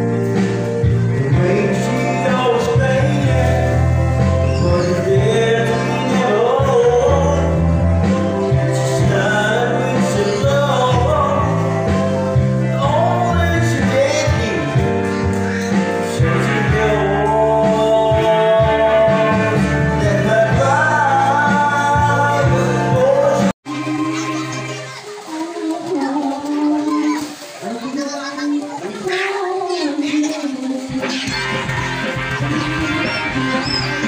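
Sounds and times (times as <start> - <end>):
backing music with bass and guitar: 0.0 - 25.1, 30.1 - 34.0
man singing into a microphone: 1.0 - 15.2, 15.8 - 31.4.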